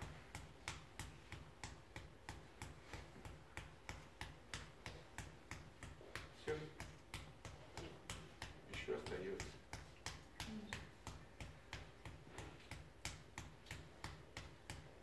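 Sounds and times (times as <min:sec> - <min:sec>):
fist tapping on hand: 0:00.0 - 0:15.0.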